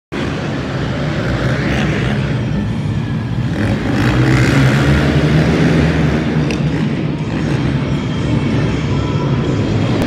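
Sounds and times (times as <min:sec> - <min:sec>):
atv engines revving: 0:00.2 - 0:10.0.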